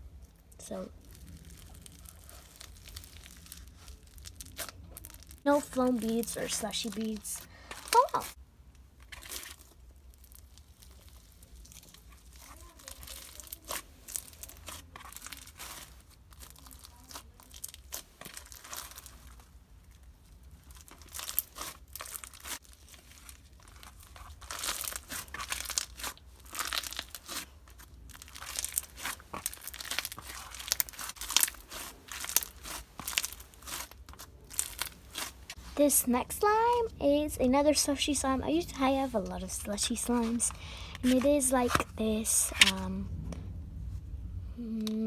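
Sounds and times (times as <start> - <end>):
slime crackling and popping: 0.1 - 35.6, 38.8 - 42.8.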